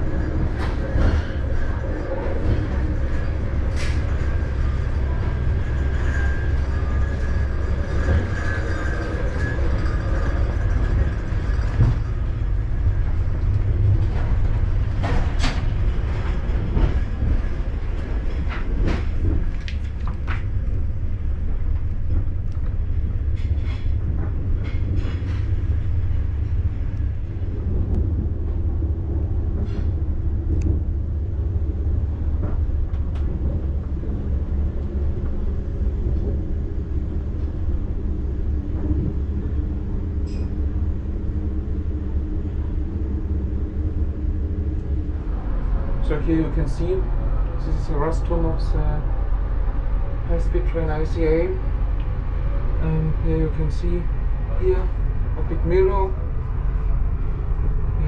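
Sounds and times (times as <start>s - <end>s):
train interior low rumble: 0.0s - 58.0s.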